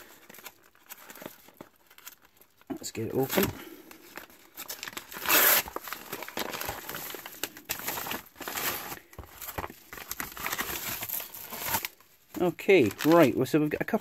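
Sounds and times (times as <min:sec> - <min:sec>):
paper bag tearing open: 0:00.0 - 0:03.8, 0:04.5 - 0:13.5
paper and plastic rustling: 0:00.0 - 0:14.0.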